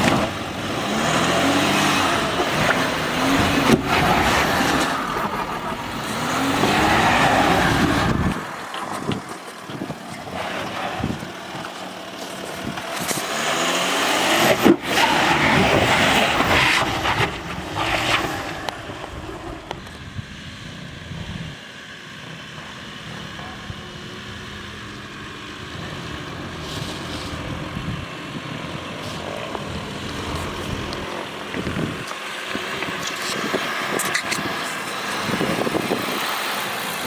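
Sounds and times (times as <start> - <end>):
vehicle driving off-road: 0.0 - 37.0.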